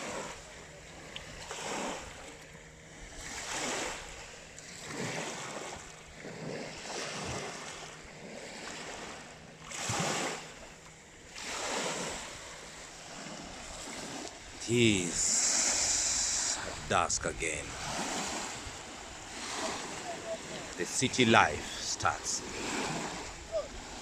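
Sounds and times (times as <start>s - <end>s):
lake waves washing in: 0.0s - 24.0s.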